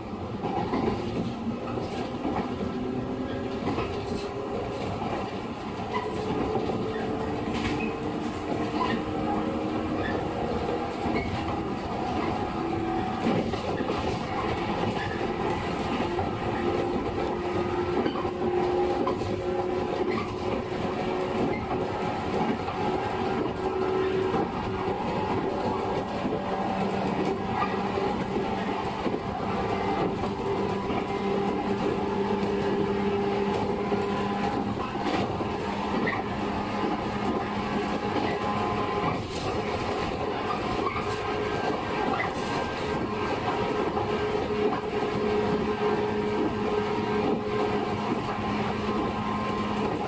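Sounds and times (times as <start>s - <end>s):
train rumble: 0.0s - 50.0s
wheels clicking over rail joints: 0.3s - 50.0s.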